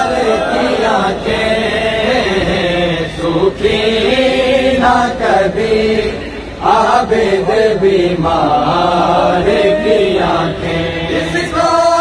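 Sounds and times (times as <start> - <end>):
men chanting a mourning lament: 0.0 - 12.0.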